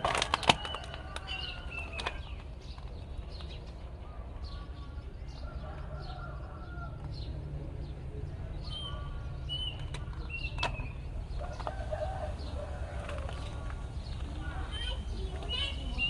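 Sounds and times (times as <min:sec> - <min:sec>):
birds chirping and clucking: 0:00.0 - 0:16.0.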